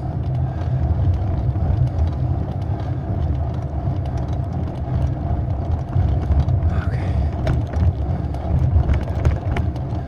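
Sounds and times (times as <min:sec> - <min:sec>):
faint rattling ticks: 0:00.0 - 0:10.0
low road vibration rumble: 0:00.0 - 0:10.0.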